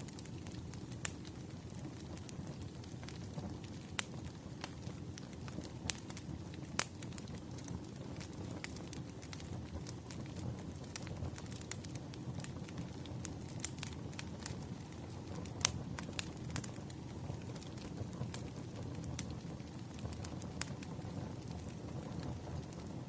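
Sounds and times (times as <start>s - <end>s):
campfire burning rumble: 0.0s - 23.0s
campfire crackling pops: 0.0s - 23.0s.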